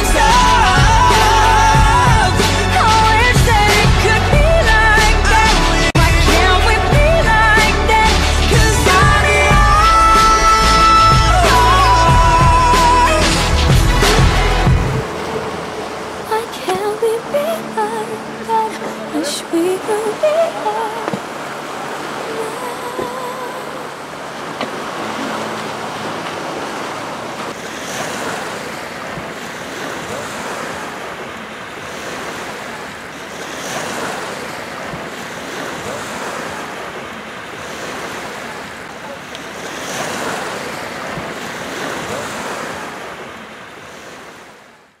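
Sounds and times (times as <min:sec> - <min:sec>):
sea surf washing in: 0:00.0 - 0:45.0.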